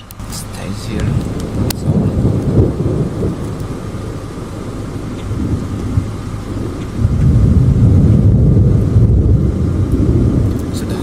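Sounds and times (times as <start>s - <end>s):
thunder rumbling: 0.0s - 11.0s.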